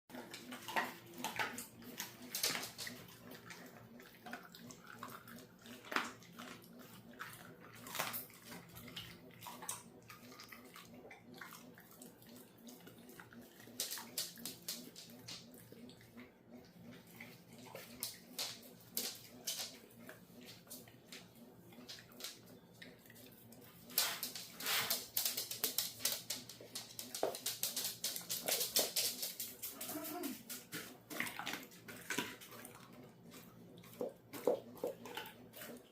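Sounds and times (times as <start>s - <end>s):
dog chewing bones: 0.1s - 35.9s.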